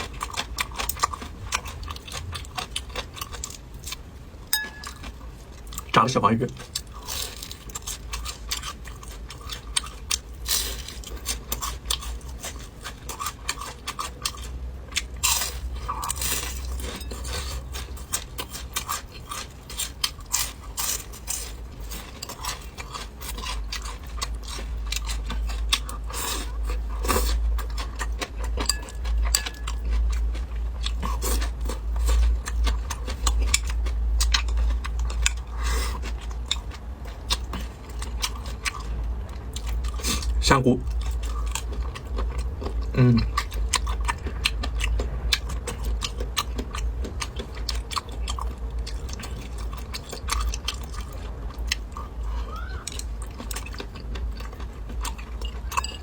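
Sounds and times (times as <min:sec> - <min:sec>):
crunching and chewing fried fish: 0:00.0 - 0:56.0
steady low hum: 0:00.0 - 0:56.0.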